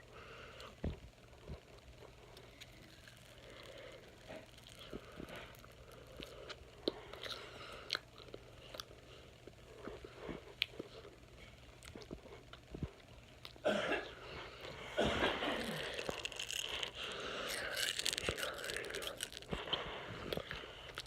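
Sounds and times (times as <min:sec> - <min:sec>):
person chewing with wet mouth noises: 0:01.5 - 0:13.6, 0:14.4 - 0:21.0.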